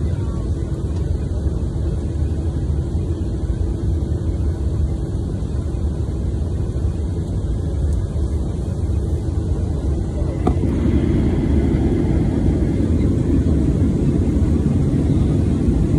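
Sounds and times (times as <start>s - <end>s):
airplane cabin engine rumble: 0.0s - 15.9s
faint hum: 0.0s - 15.9s.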